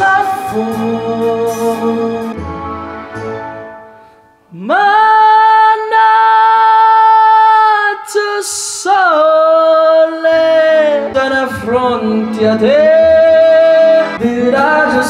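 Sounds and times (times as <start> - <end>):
man singing into microphone: 0.0 - 2.4, 4.5 - 15.0
karaoke backing track: 0.0 - 15.0.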